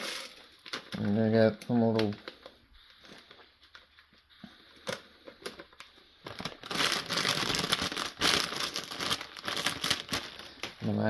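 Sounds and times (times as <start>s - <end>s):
plastic packet crinkling: 0.0s - 3.8s, 4.8s - 11.0s
packet rustles and clicks: 0.0s - 11.0s.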